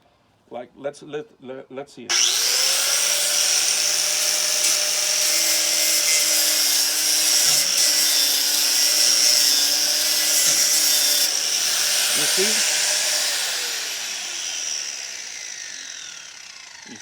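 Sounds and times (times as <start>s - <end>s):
angle grinder sanding wood: 2.1s - 17.0s.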